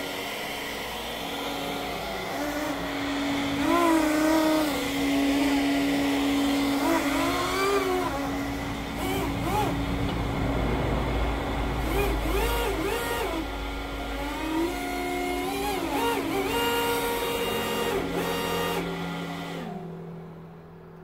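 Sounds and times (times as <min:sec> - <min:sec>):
model hovercraft fans whining: 0:00.0 - 0:21.0.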